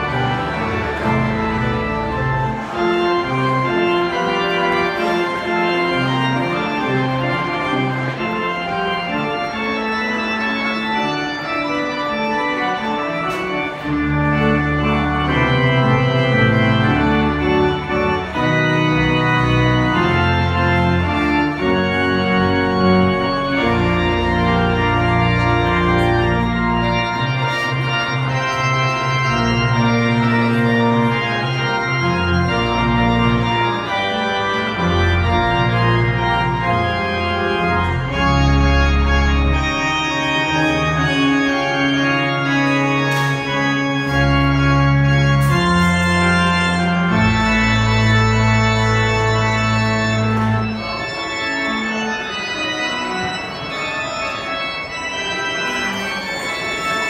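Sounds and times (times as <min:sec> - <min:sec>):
church organ chords: 0:00.0 - 0:57.0
deep organ pedal bass notes: 0:00.0 - 0:57.0.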